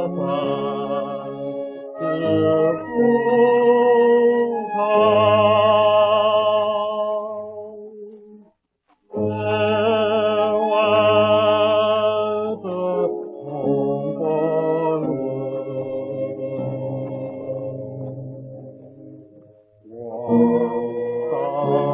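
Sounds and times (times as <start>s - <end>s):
old record music with vibrato: 0.0s - 21.9s.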